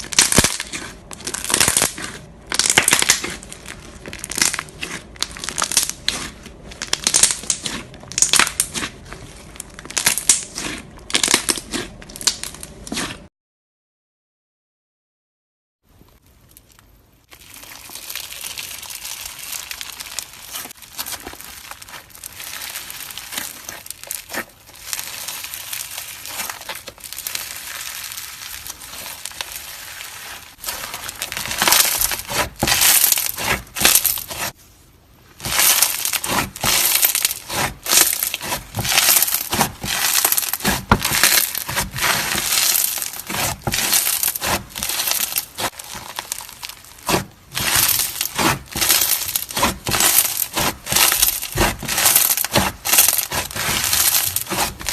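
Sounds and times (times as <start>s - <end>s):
crunchy slime crackling: 0.0s - 13.3s, 15.9s - 54.9s.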